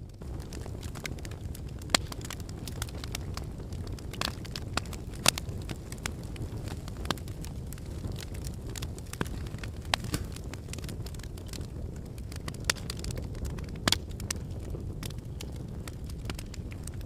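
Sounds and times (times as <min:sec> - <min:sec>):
fireplace logs crackling: 0:00.0 - 0:17.0.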